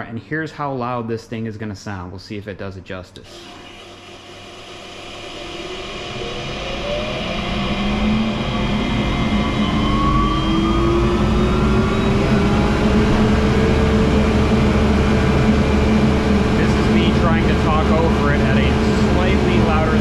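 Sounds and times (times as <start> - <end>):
dust collector motor whine: 3.3 - 20.0.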